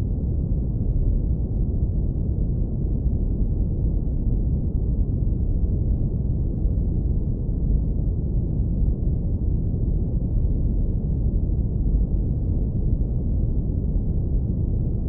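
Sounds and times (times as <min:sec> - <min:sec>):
deep steady rumble noise: 0:00.0 - 0:15.0.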